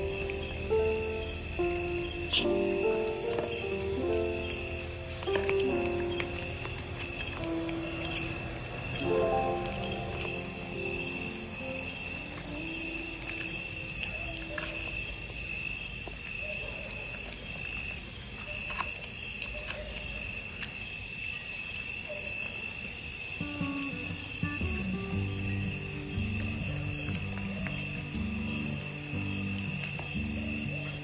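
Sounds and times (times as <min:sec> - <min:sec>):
insects chirping: 0:00.0 - 0:31.0.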